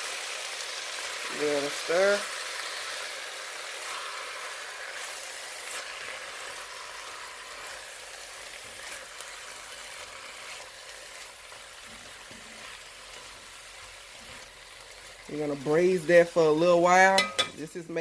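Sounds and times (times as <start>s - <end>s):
chicken and onion sizzling in oil: 0.0s - 18.0s.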